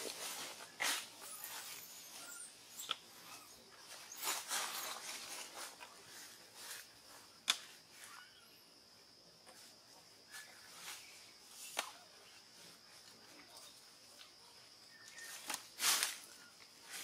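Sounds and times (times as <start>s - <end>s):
leaves rustling: 0.0s - 8.3s, 9.6s - 17.0s.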